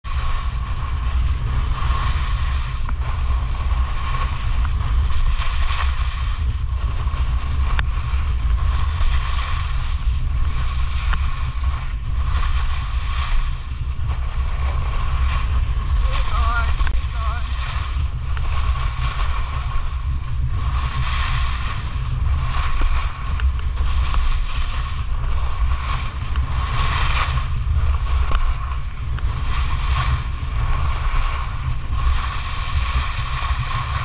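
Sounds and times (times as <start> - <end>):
snowboard carving on snow: 0.0 - 34.0
wind buffeting microphone: 0.0 - 34.0.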